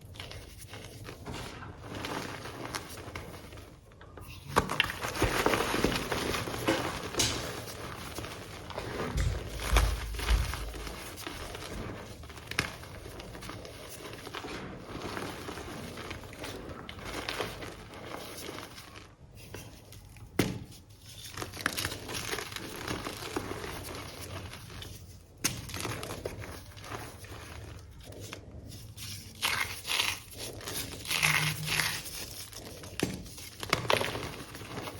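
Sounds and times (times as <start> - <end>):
chalk blocks crunching: 0.0 - 34.9.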